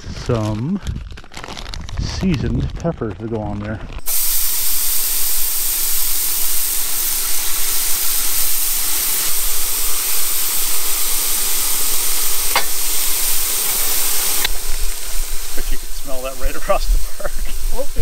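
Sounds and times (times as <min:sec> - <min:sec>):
meat sizzling on a grill: 0:03.4 - 0:18.0.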